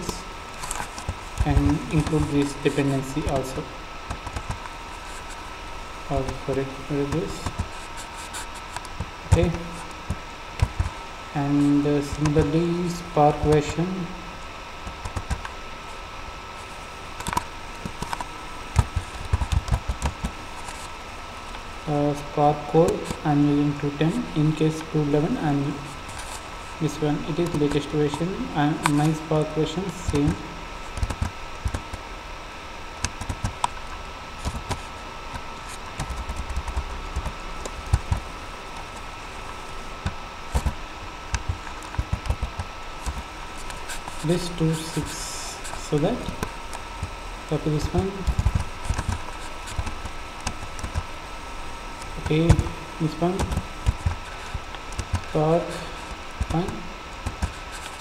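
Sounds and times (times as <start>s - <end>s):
faint high whine: 0.0s - 58.0s
steady background hiss: 0.0s - 58.0s.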